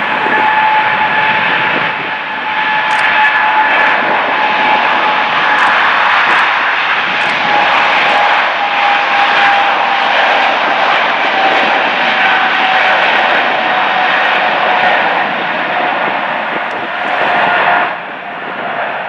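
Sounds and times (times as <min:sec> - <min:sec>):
jet engine roar with fan whine: 0:00.0 - 0:19.0.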